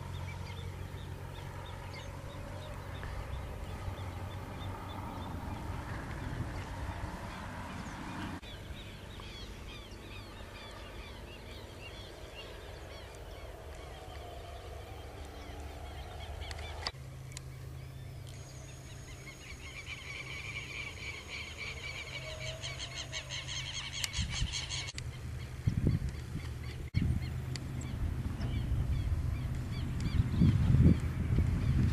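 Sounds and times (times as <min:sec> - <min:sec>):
birds chirping: 0:00.0 - 0:31.9
steady low rumble: 0:00.0 - 0:31.9.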